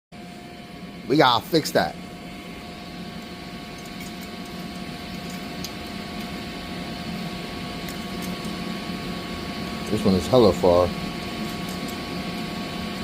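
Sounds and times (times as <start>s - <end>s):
boiler-room machinery hum and hiss: 0.2s - 13.0s.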